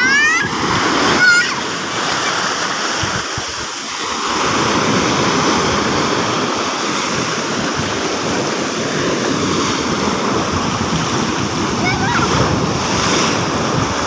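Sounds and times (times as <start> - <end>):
waves breaking: 0.0 - 14.0.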